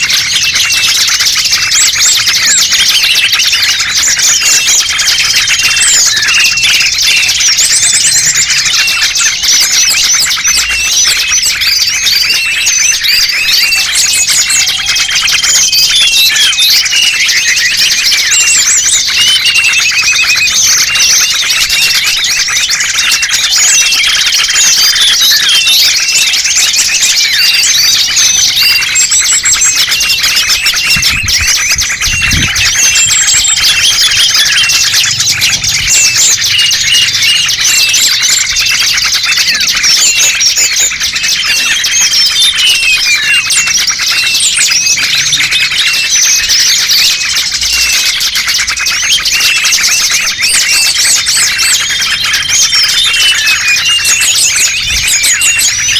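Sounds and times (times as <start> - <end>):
songbirds chirping and twittering: 0.0 - 55.9.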